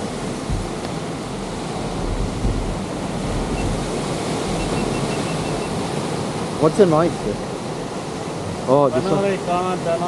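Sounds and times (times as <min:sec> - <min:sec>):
surf breaking on rocks: 0:00.0 - 0:10.0
wind gusting on microphone: 0:00.0 - 0:10.0.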